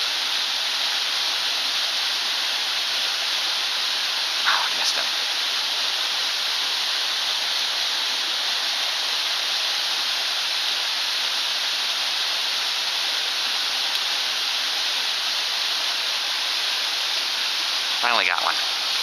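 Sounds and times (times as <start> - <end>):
waterfall and stream rushing: 0.0 - 19.0.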